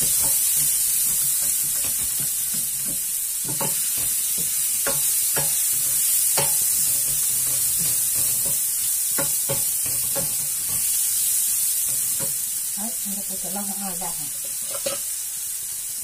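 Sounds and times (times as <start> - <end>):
wooden spoon scraping a pan: 0.0 - 12.4, 14.0 - 15.1
leeks sizzling in oil: 0.0 - 16.0.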